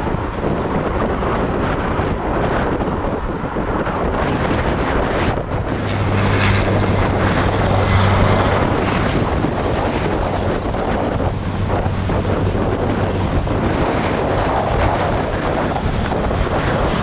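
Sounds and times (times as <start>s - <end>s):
diesel locomotive drone: 0.0s - 17.0s
wind buffeting microphone: 0.0s - 17.0s.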